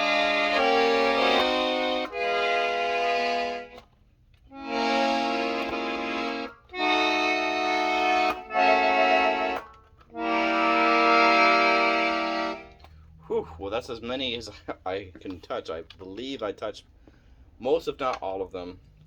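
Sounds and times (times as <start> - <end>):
accordion held tones: 0.0 - 16.2.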